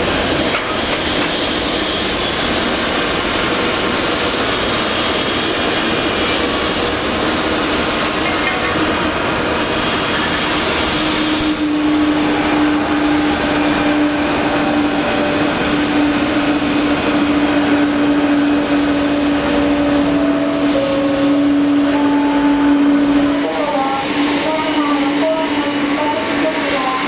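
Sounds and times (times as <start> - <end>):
jet engine rumble with whine: 0.0 - 27.0.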